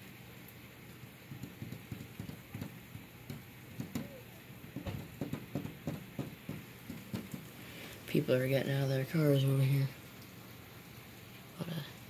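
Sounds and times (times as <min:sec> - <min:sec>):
raindrops splattering: 0:00.0 - 0:12.0
steady faint hiss: 0:00.0 - 0:12.0.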